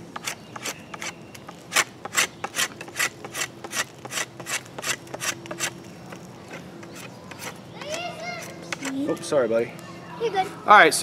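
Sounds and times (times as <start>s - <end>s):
knife scraping bark off stick: 0.0s - 9.3s.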